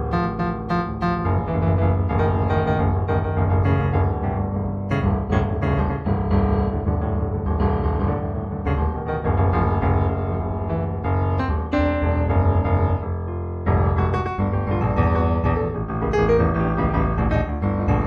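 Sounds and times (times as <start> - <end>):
solo piano music: 0.0 - 18.0.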